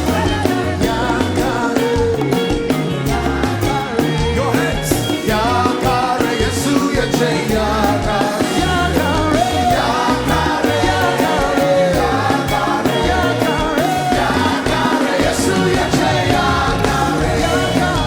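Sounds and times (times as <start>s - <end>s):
steady drum beat: 0.0s - 18.0s
upbeat gospel singing: 0.0s - 18.0s.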